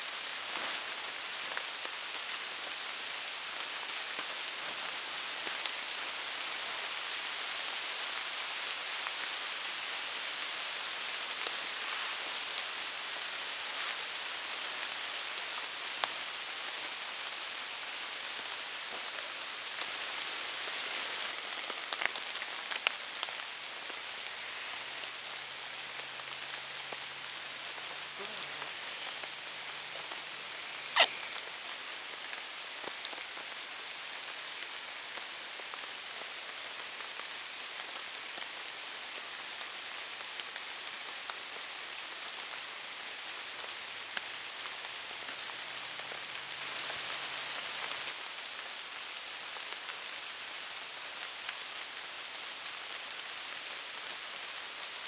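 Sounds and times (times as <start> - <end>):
rain falling through trees: 0.0 - 55.0.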